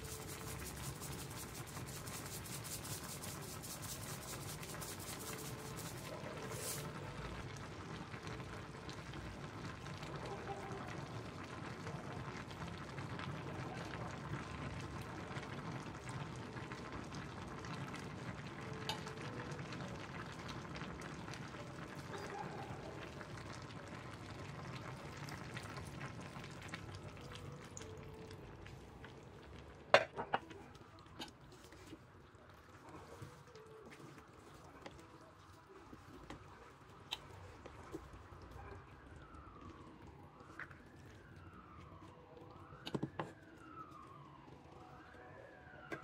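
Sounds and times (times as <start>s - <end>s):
soup sizzling and simmering: 0.0s - 46.0s.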